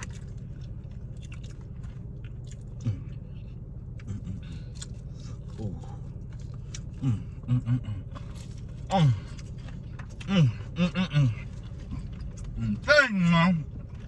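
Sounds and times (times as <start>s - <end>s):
chewing and biting food: 0.0s - 12.9s.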